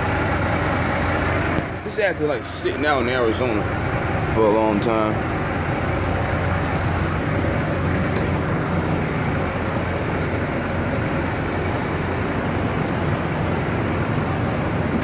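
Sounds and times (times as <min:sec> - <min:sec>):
diesel truck idling: 0:00.0 - 0:15.0.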